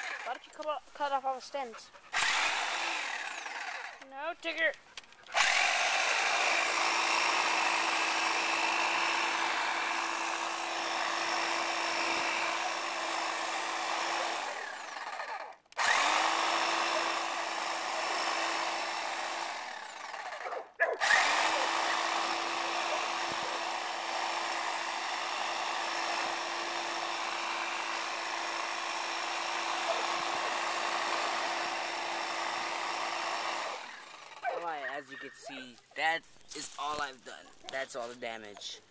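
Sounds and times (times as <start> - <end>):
hedge trimmer motor whine: 0.0 - 0.6, 2.1 - 4.7, 5.3 - 34.8
trimmer cutting weed stalks: 0.0 - 38.8.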